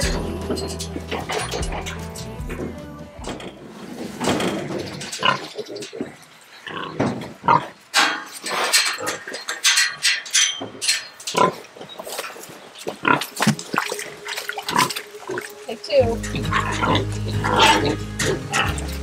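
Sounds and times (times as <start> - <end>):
pigs grunting and squealing: 0.0 - 19.0.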